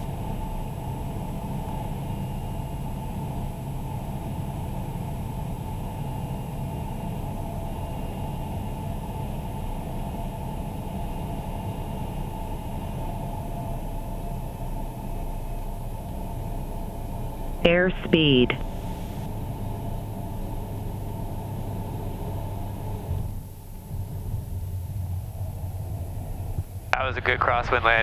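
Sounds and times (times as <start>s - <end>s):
turboprop cockpit noise: 0.0s - 28.0s.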